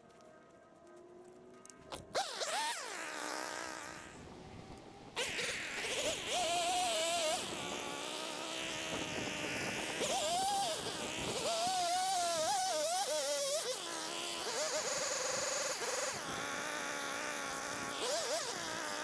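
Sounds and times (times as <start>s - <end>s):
chainsaw cutting stems: 1.8s - 4.2s, 5.2s - 19.0s.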